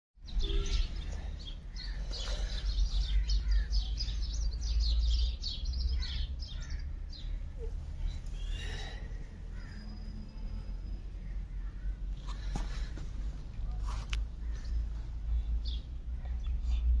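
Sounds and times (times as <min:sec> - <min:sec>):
birds chirping: 0:00.2 - 0:17.0
steady low rumble: 0:00.2 - 0:17.0.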